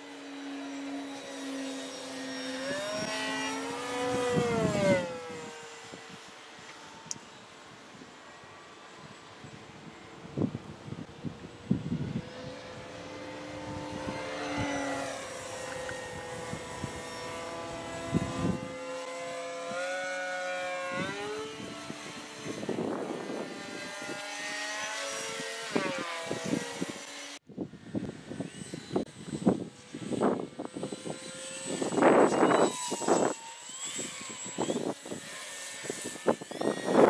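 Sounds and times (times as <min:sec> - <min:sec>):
model airplane motor whining: 0:00.0 - 0:37.0
wind buffeting microphone: 0:02.6 - 0:07.1, 0:09.1 - 0:19.9, 0:20.7 - 0:37.0.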